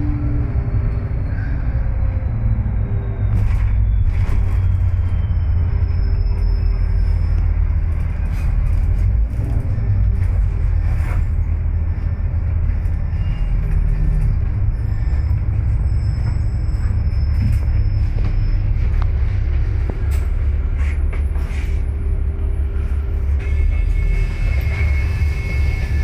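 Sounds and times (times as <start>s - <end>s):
bus interior rumble: 0.0s - 26.0s.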